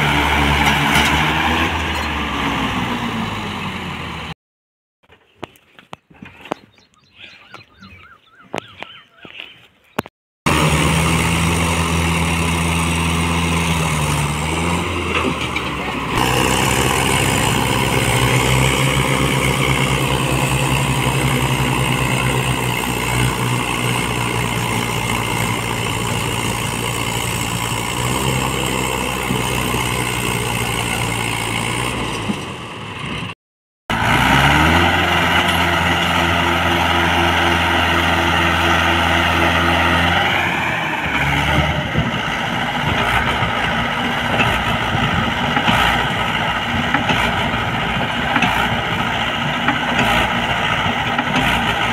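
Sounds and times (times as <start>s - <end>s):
tractor diesel engine running: 0.0s - 4.4s, 10.5s - 51.9s.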